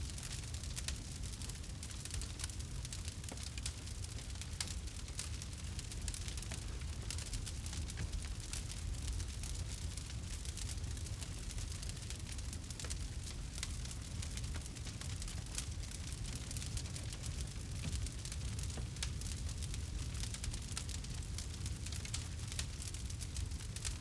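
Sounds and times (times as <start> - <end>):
campfire crackling: 0.1 - 24.0.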